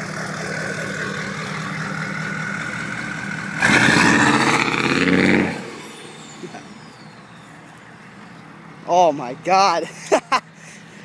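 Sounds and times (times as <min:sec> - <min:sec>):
diesel pickup engine idling and revving: 0:00.0 - 0:11.0.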